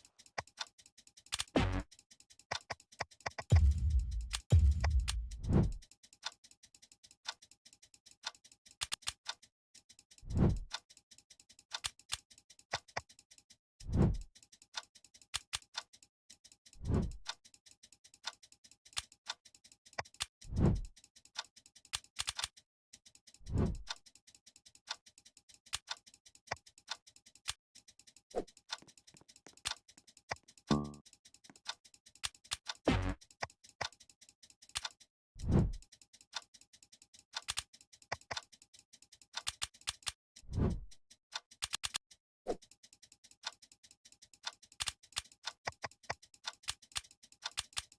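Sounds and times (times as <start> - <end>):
clock ticking: 0.0 - 40.2, 41.3 - 47.9.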